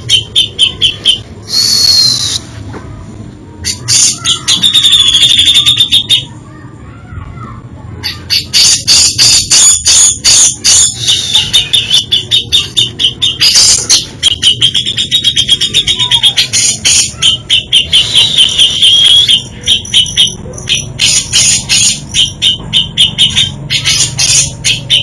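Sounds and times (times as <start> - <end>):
bulbul singing: 0.0 - 2.5, 3.6 - 6.4, 8.0 - 25.0.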